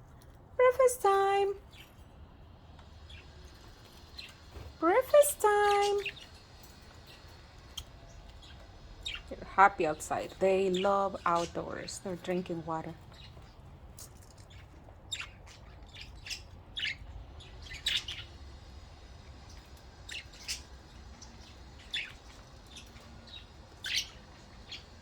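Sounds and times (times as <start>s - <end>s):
budgies chirping: 2.8s - 25.0s.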